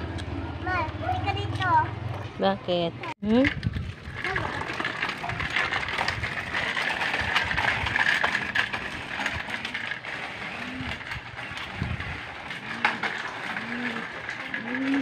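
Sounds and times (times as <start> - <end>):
small bicycle wheels rattling on concrete: 0.1 - 15.0.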